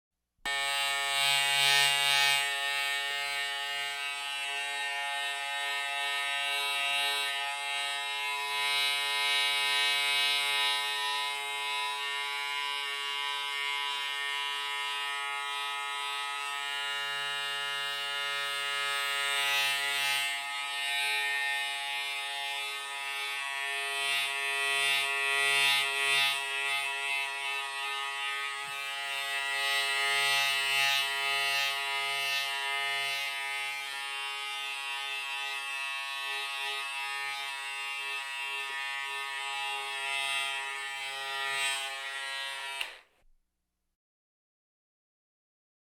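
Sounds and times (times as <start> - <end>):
electric shaver buzzing: 0.5 - 43.3.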